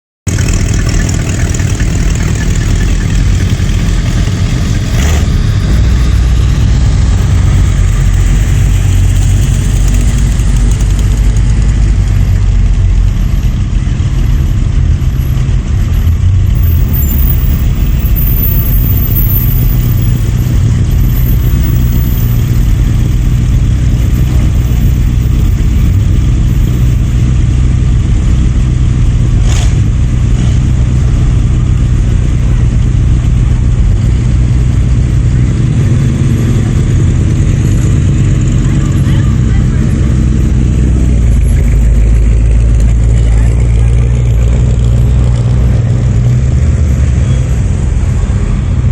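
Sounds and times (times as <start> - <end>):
car engines rumbling: 0.2 - 48.9.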